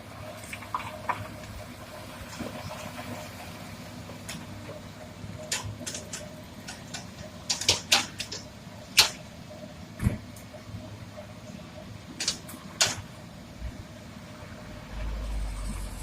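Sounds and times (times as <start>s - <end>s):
excavator diesel engine hum: 0.0s - 16.0s.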